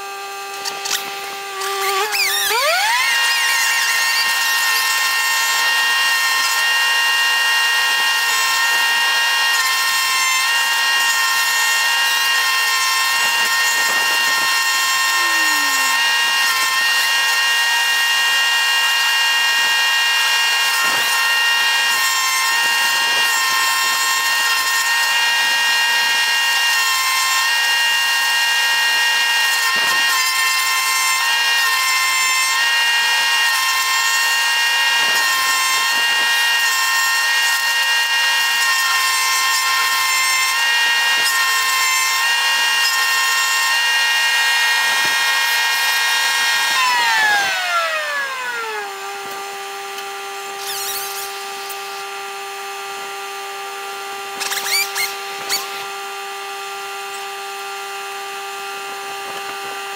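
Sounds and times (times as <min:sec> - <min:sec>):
chainsaw engine running: 0:00.0 - 0:52.3.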